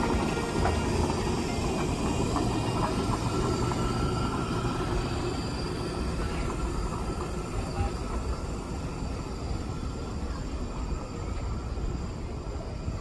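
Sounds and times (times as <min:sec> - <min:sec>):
train running by: 0:00.0 - 0:13.0.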